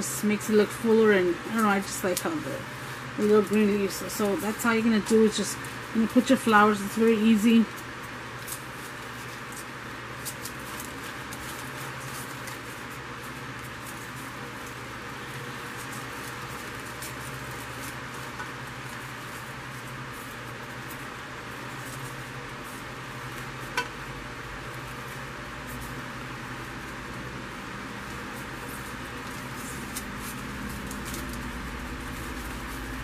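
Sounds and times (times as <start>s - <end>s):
artificial flower stems rustling: 0.0s - 33.0s
background hiss and hum: 0.0s - 33.0s.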